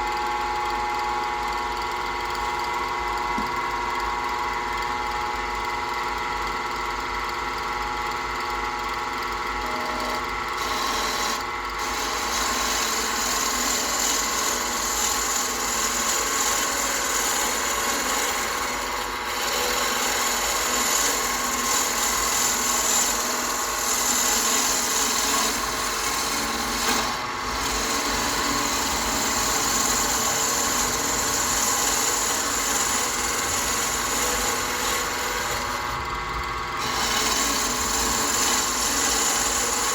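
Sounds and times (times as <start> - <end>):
wood lathe motor hum: 0.0 - 39.9.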